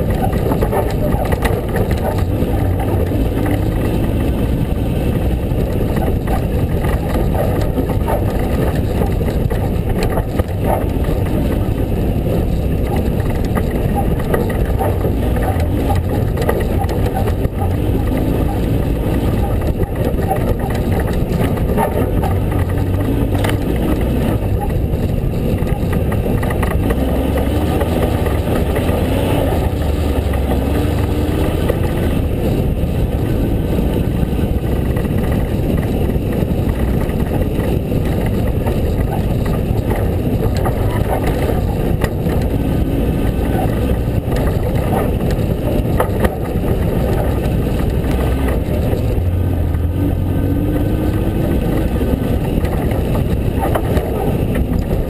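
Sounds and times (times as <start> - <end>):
vehicle rumble on dirt trail: 0.0 - 55.0.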